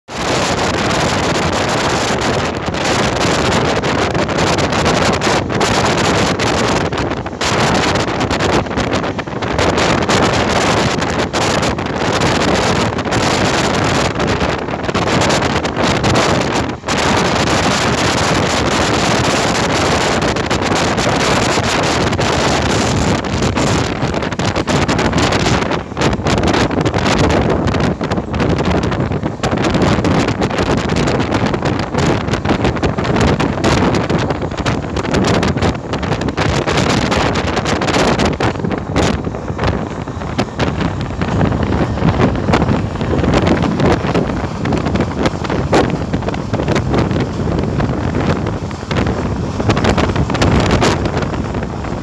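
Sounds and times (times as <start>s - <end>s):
wind rushing over microphone: 0.0s - 52.0s
train running noise: 0.1s - 52.0s.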